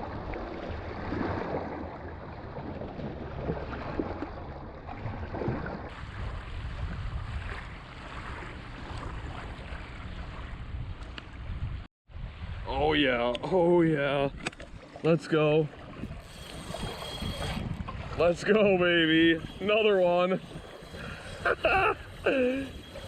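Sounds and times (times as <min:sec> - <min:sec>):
water lapping at shore: 0:00.0 - 0:12.6, 0:14.0 - 0:23.0
wind buffeting microphone: 0:00.0 - 0:23.0.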